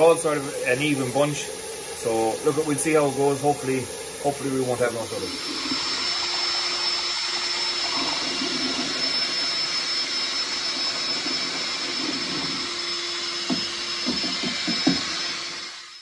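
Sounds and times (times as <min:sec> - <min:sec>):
liquid churning: 0:00.0 - 0:15.1
drill motor whine: 0:00.0 - 0:16.0.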